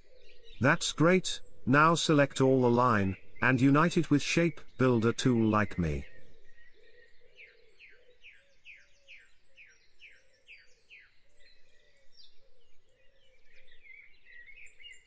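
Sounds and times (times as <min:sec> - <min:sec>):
birds chirping and warbling: 0:00.0 - 0:15.0.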